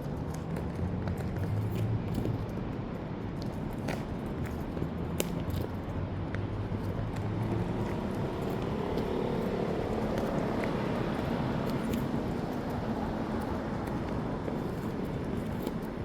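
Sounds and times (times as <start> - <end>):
traffic rumble: 0.0 - 16.0
vehicle engine hum: 0.0 - 16.0.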